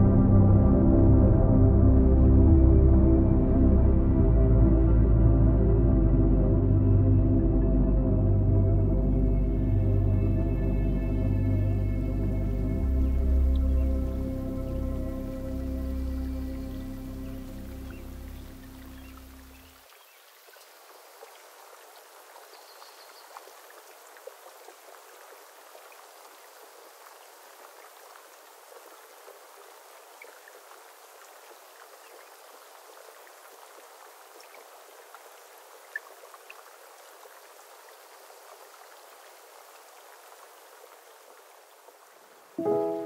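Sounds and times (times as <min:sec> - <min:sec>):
rain falling on water: 0:08.3 - 0:43.0.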